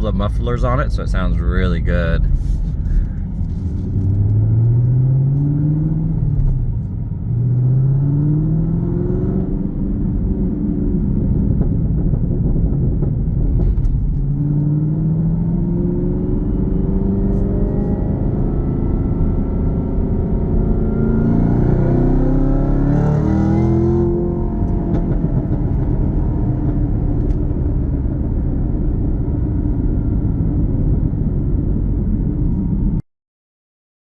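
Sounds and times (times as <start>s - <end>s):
car engine accelerating: 0.1s - 32.9s.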